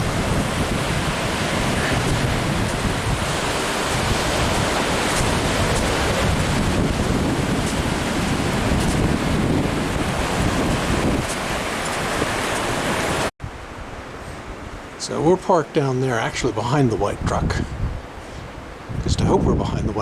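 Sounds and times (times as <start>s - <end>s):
wind buffeting microphone: 0.0s - 15.4s, 16.2s - 20.0s
surf washing on beach: 0.0s - 20.0s.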